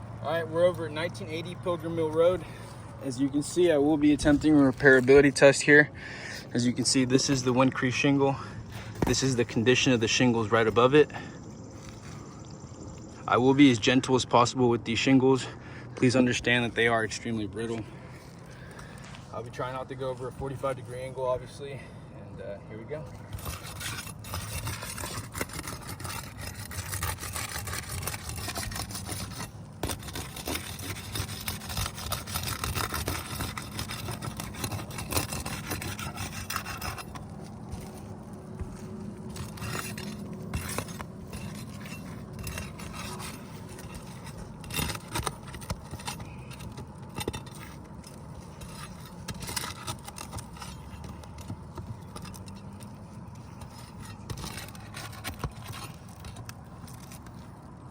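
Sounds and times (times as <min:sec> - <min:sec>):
roof shingles rubbing and scraping: 0:01.2 - 0:13.2, 0:23.1 - 0:57.9.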